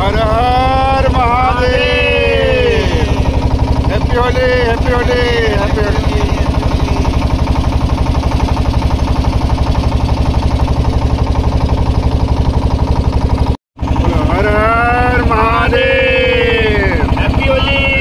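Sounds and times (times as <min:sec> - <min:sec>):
engine running with fast pulse: 0:00.0 - 0:18.0.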